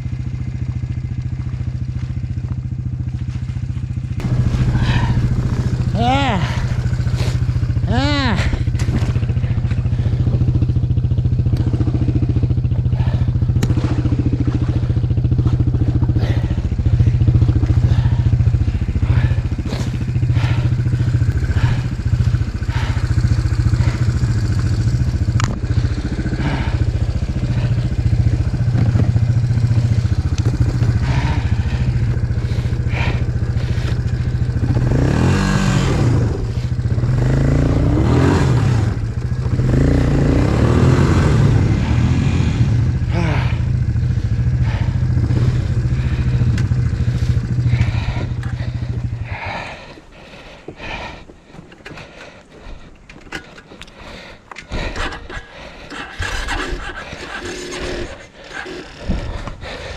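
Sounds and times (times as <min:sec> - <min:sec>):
atv engine running under load: 0:00.0 - 0:59.9.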